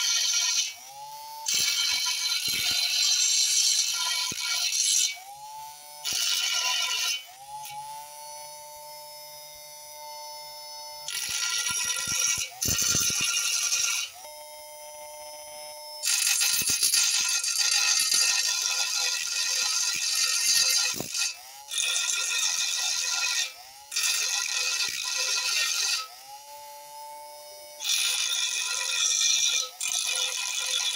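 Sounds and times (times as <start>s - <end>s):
disc grinding steel: 0.0s - 26.2s, 27.4s - 30.9s
small motor whining: 0.0s - 30.9s.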